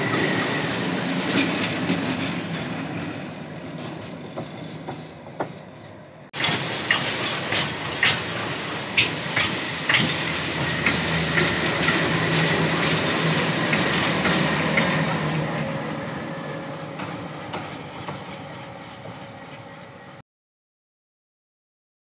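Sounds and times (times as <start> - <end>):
diesel locomotive engine drone: 0.0 - 20.2.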